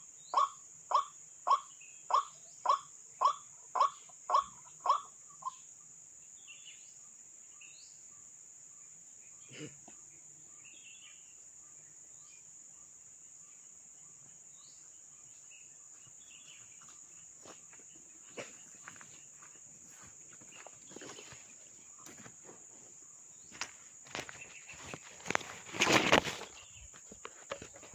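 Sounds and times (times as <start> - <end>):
insects trilling: 0.0 - 27.9
short insect chirps: 0.0 - 27.9.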